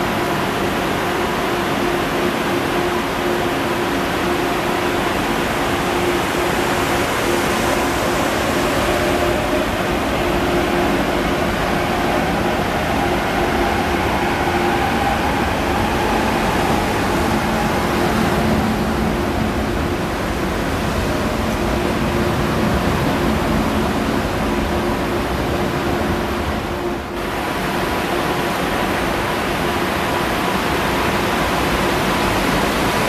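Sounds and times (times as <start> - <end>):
electric train rolling past: 0.0 - 33.0.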